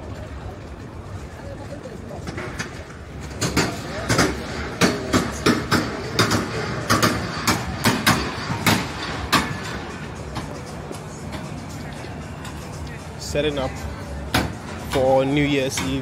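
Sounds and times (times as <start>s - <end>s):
voices: 0.0s - 16.0s.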